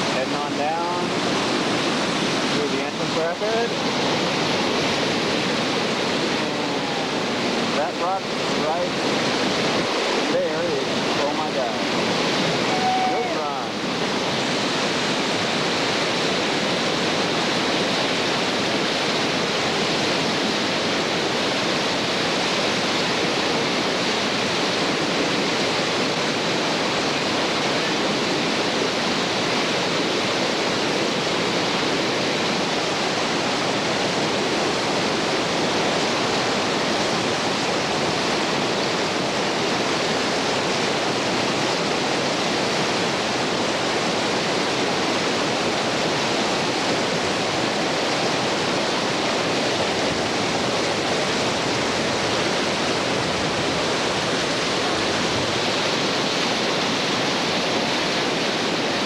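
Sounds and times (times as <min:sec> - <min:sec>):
whitewater rapids rushing: 0:00.0 - 0:59.0.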